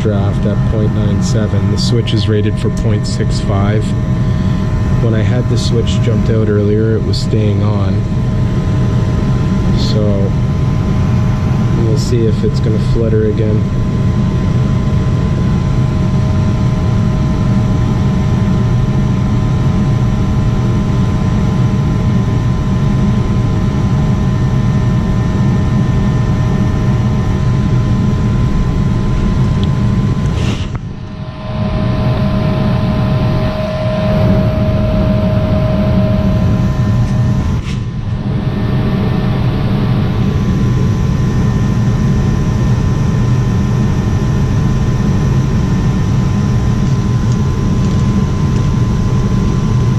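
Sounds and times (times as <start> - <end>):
faint steady hum: 0.0 - 49.9
gas furnace rumble: 0.0 - 49.9.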